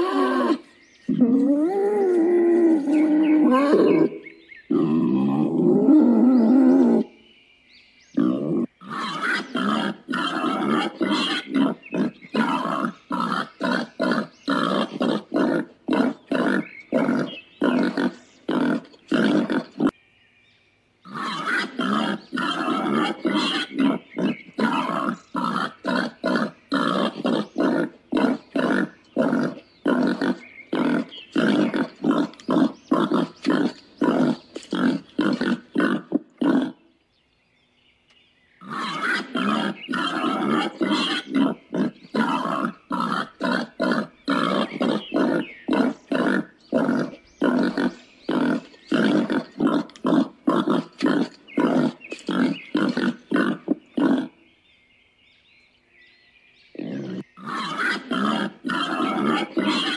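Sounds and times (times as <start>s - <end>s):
warthogs grunting: 0.0s - 7.1s, 8.2s - 20.0s, 21.0s - 36.8s, 38.6s - 54.4s, 56.7s - 59.9s.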